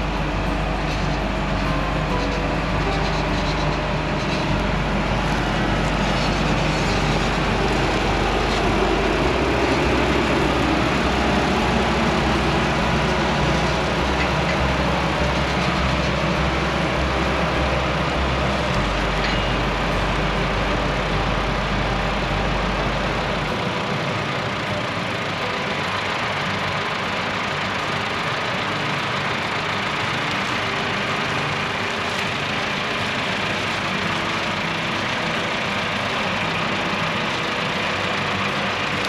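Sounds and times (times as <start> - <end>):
harvest machinery engine drone: 0.0 - 39.0.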